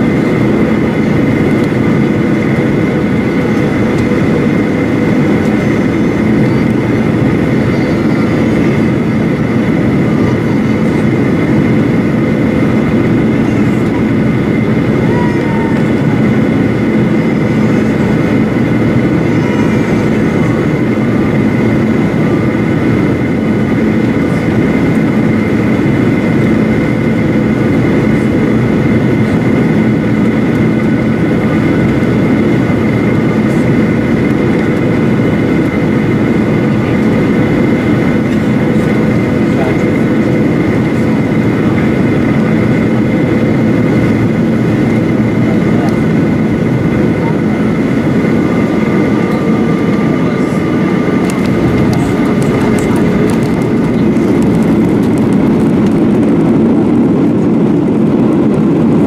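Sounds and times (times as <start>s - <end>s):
jet engines with airflow rush: 0.0s - 59.0s.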